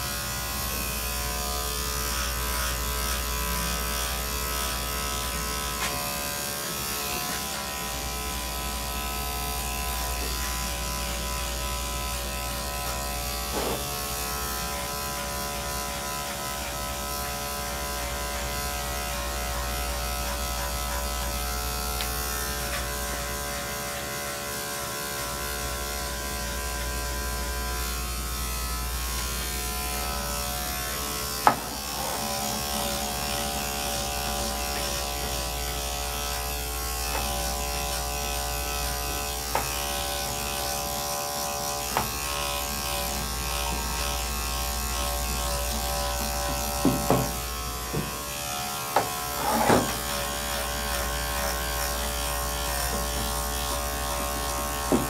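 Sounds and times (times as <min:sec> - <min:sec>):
electric clippers running: 0:00.0 - 0:55.0.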